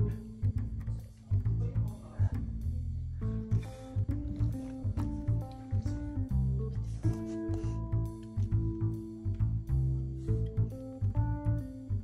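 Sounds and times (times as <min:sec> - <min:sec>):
background music with plucked bass: 0:00.0 - 0:12.0.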